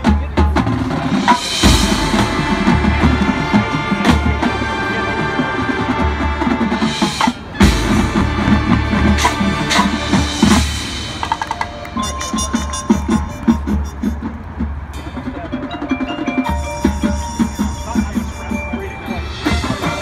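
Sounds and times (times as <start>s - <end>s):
drumline bass and snare drums: 0.0s - 20.0s
marching band playing: 0.0s - 20.0s.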